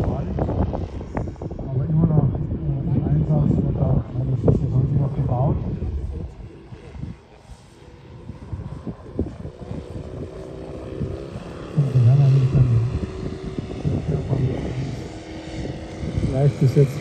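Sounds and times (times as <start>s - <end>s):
model plane propeller engine drone: 0.0s - 17.0s.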